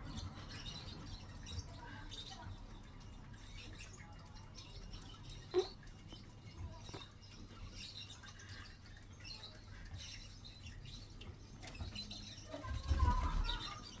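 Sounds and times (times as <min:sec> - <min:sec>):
lovebird chirping: 0:00.0 - 0:14.0.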